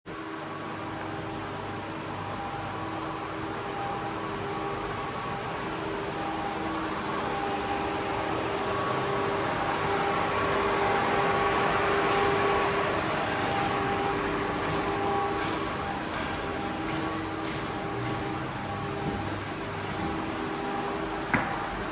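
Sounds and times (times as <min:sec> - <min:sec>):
lathe machine hum: 0:00.1 - 0:21.9.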